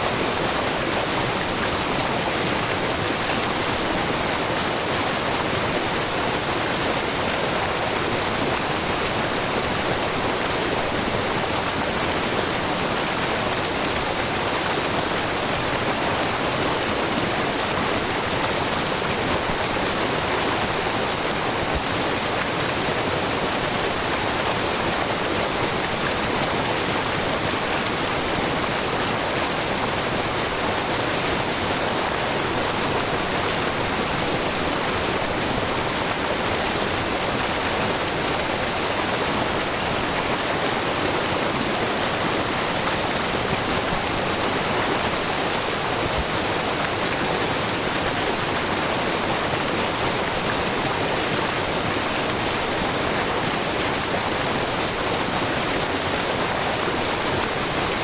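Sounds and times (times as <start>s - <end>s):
brook babbling: 0.0s - 58.0s
waterfall rushing: 0.0s - 58.0s.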